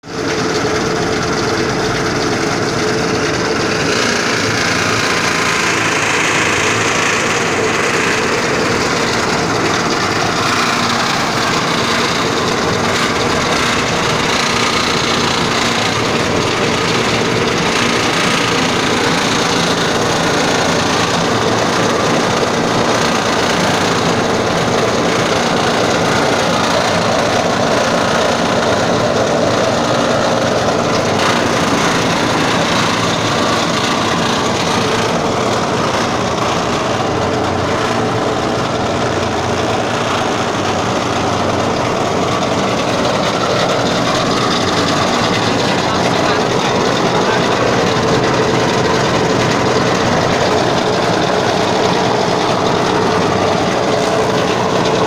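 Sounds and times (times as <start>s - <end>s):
feed chopping machine running: 0.0s - 55.0s.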